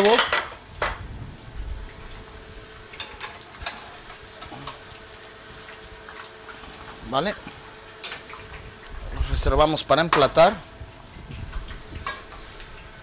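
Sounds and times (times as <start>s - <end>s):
hot oil sizzling: 0.0s - 13.0s
faint steady hum: 0.3s - 13.0s.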